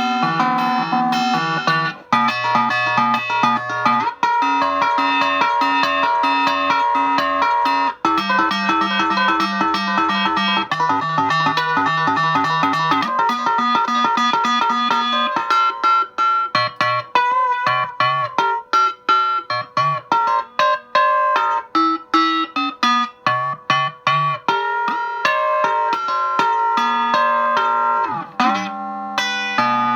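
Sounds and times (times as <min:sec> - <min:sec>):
electric guitar chicken picking: 0:00.0 - 0:29.9.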